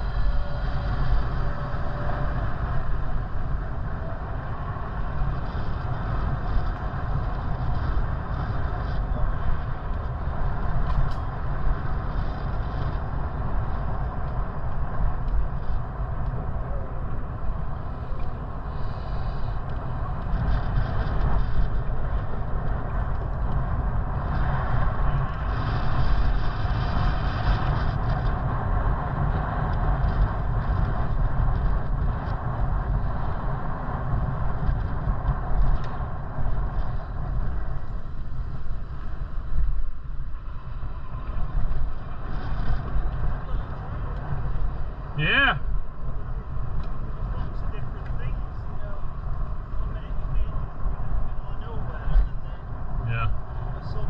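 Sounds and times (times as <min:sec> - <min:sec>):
bicycle road noise: 0:00.0 - 0:54.0
wind buffeting microphone: 0:00.0 - 0:54.0.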